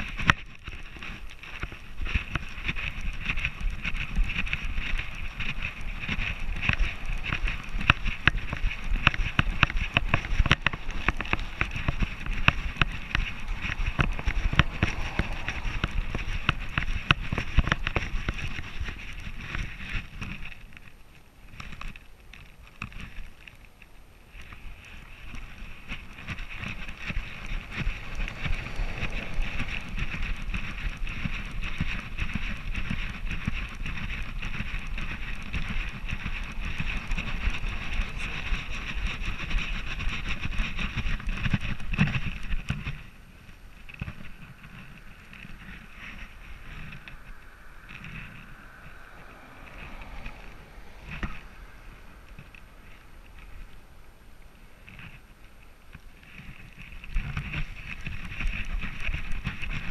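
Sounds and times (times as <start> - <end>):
microphone rubbing and knocking: 0.0 - 23.5, 24.4 - 54.0.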